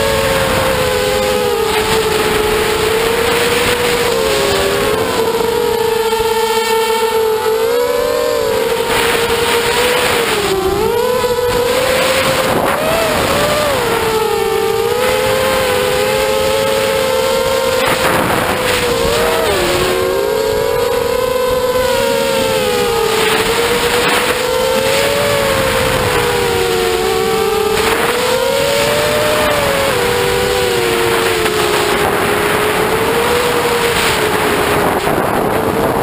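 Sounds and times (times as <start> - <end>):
drone motors whining: 0.0 - 36.0
wind noise on microphone: 0.0 - 36.0.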